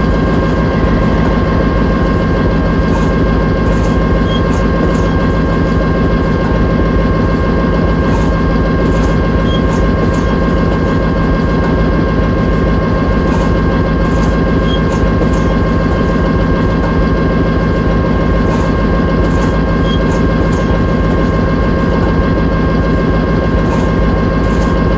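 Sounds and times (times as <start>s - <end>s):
engine whine: 0.0s - 24.9s
locomotive engine rumble: 0.0s - 24.9s.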